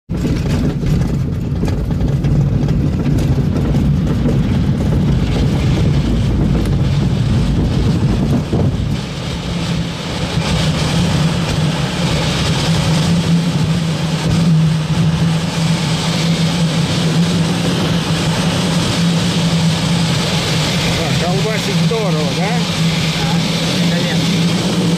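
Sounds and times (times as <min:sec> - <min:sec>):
engine drone: 0:00.1 - 0:24.9
rumbling wind airflow: 0:00.1 - 0:24.9.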